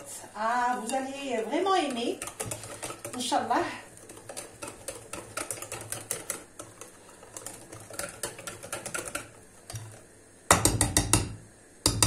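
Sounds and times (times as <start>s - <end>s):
whisk clicking against glass bowl: 0.7s - 11.3s.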